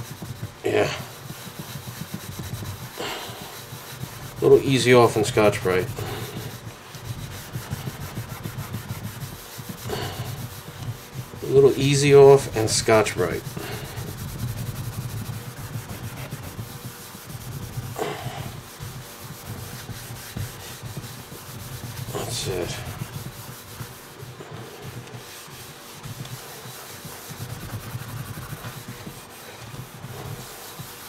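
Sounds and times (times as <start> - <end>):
scouring pad scrubbing a pan: 0.0 - 31.0.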